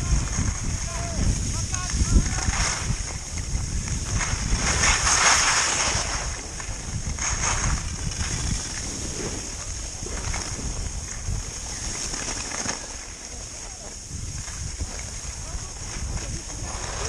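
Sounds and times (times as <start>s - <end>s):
skis scraping on packed snow: 0.0s - 17.0s
wind buffeting microphone: 0.0s - 17.0s.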